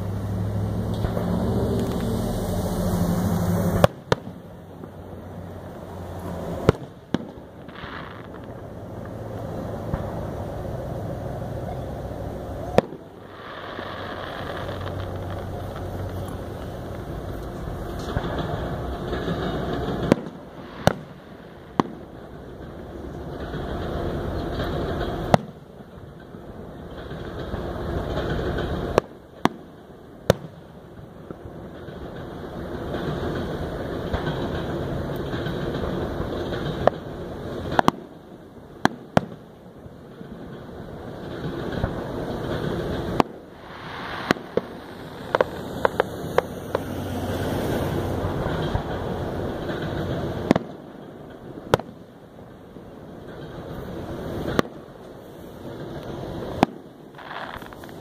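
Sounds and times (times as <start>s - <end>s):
background rumble: 0.0s - 58.0s
fireworks shells bursting: 0.6s - 58.0s.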